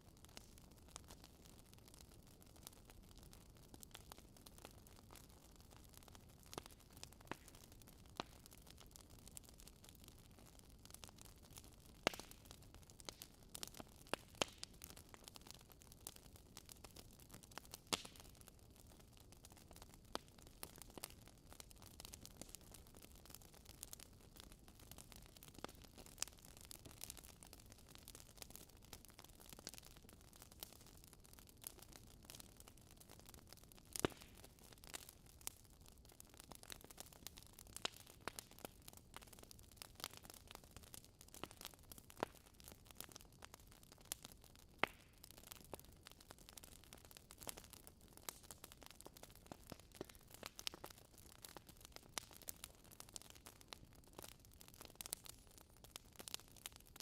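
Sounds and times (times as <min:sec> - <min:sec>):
log fire crackling: 0:00.0 - 0:57.0.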